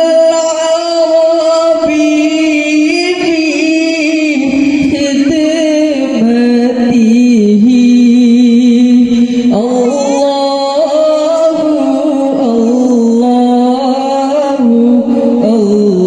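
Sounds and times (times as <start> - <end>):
boy singing devotional song: 0.0 - 16.0.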